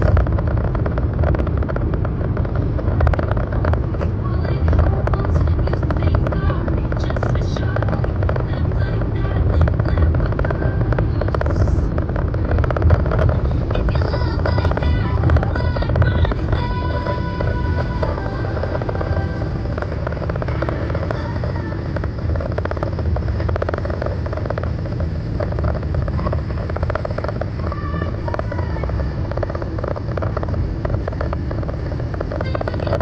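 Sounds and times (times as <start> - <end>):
car cabin road and engine noise: 0.0 - 33.0.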